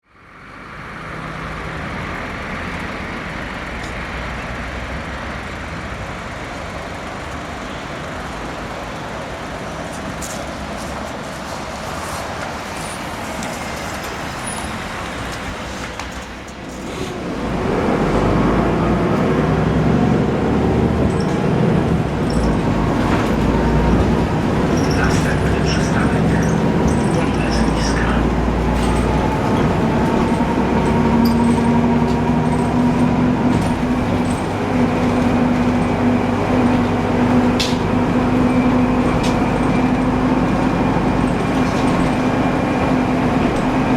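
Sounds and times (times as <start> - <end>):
bus engine and road noise: 0.0 - 43.9
bus engine low rumble: 0.0 - 43.9.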